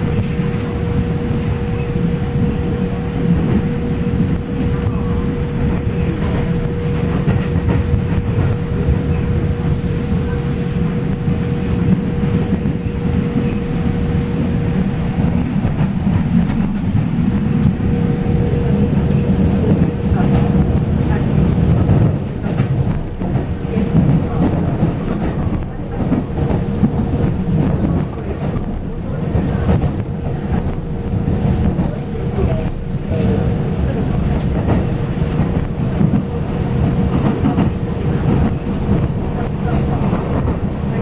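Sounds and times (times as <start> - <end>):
train running rumble: 0.0 - 41.0.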